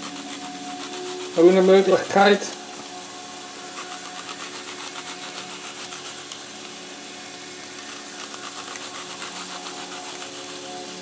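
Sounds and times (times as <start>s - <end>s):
knife sawing through onion: 0.0s - 2.3s, 2.9s - 6.8s, 7.7s - 11.0s
steady hum: 0.0s - 11.0s.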